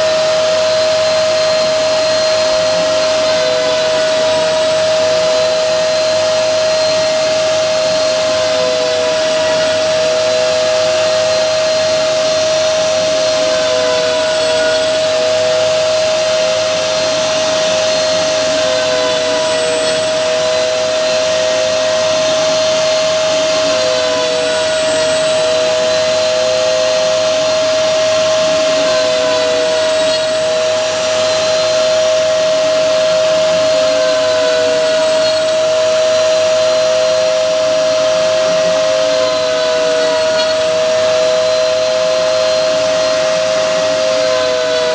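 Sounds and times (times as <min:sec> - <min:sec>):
hissy cutting noise: 0:00.0 - 0:44.9
router spindle high whine: 0:00.0 - 0:44.9.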